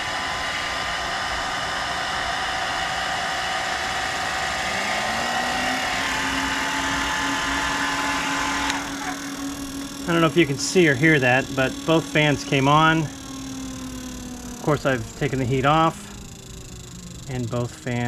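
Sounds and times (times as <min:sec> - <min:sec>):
cooling fans humming: 0:00.0 - 0:18.0
hair dryer blowing: 0:00.0 - 0:18.0.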